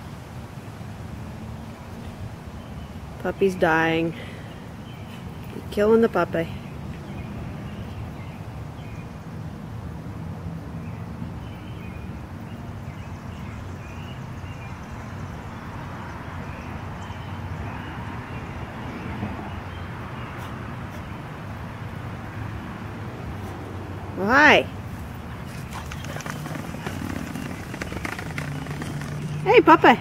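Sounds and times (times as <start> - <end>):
outdoor background rumble: 0.8 - 30.0.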